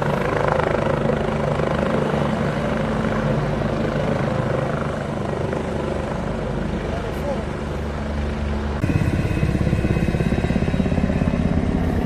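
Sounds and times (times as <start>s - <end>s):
helicopter rotors and engines droning: 0.0s - 12.0s.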